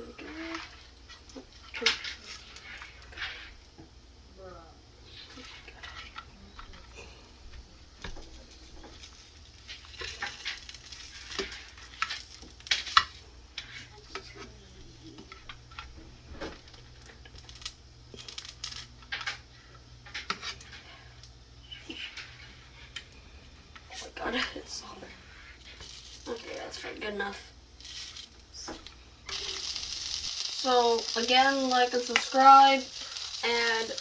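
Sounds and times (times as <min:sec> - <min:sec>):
dumplings frying in oil: 0:00.0 - 0:24.4, 0:25.1 - 0:34.0.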